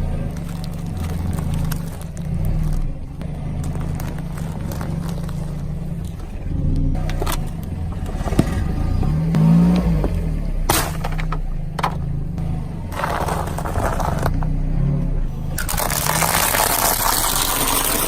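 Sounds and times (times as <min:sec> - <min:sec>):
sharp cracks and scrapes: 0:00.0 - 0:14.6, 0:15.3 - 0:18.0
vehicle engine running: 0:00.0 - 0:18.0.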